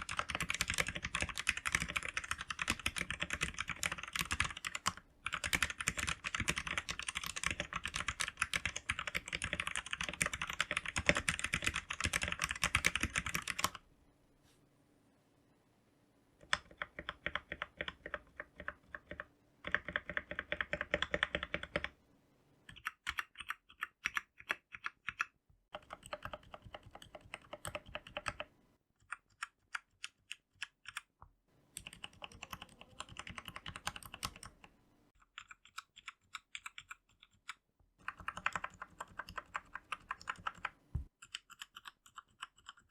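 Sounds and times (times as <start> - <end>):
mechanical keyboard typing: 0.0 - 13.8, 16.4 - 22.0, 22.7 - 31.1, 31.8 - 42.9.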